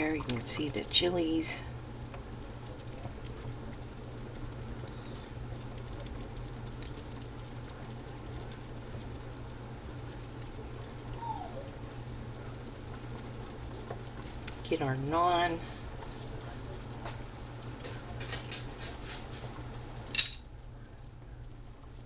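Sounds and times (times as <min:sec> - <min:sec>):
wet curry bubbling in pan: 0:00.0 - 0:22.0.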